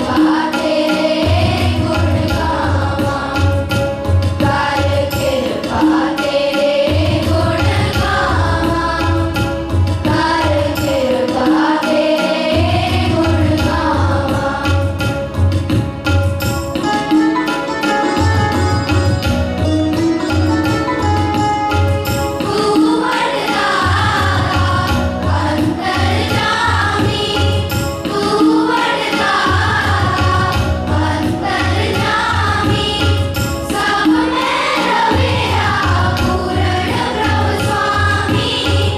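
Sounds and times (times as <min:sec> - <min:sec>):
children singing a hymn: 0:00.0 - 0:15.0, 0:22.4 - 0:38.9
rhythmic accompaniment: 0:00.0 - 0:38.9.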